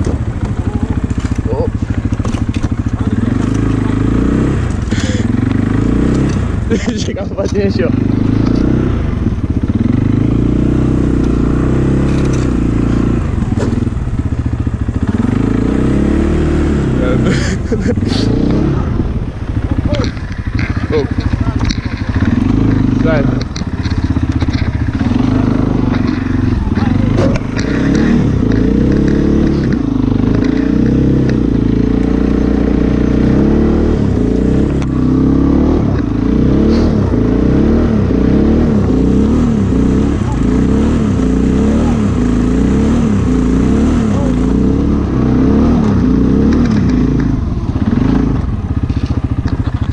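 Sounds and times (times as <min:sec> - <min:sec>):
atv engine running under load: 0:00.0 - 0:49.9.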